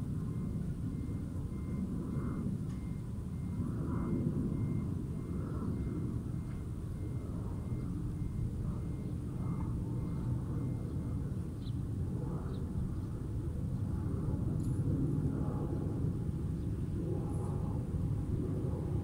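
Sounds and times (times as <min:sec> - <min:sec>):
city noise rumble: 0:00.0 - 0:19.0.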